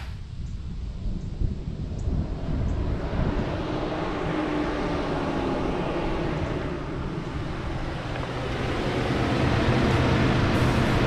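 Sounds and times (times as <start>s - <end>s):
road noise: 1.6s - 11.0s.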